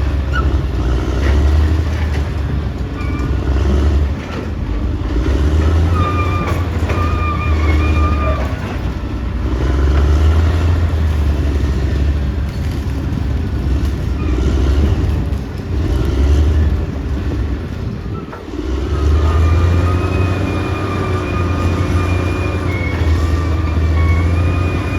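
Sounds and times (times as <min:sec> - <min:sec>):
bulldozer diesel engine rumbling: 0:00.0 - 0:24.9.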